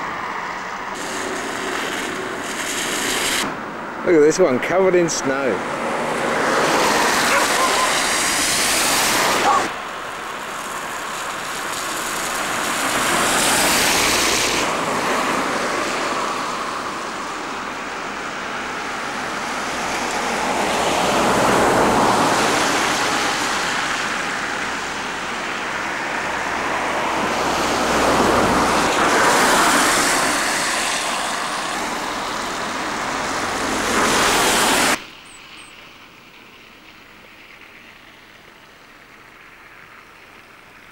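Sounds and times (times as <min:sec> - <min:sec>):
tyre hiss on wet road: 0:00.0 - 0:40.9.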